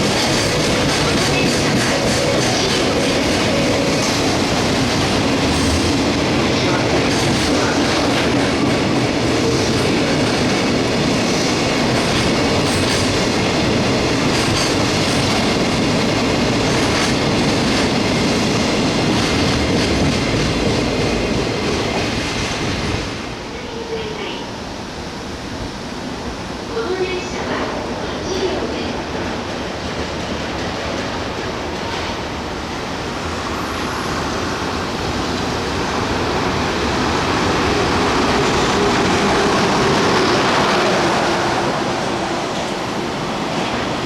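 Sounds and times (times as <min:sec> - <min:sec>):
train rumbling on rails: 0:00.0 - 0:44.0.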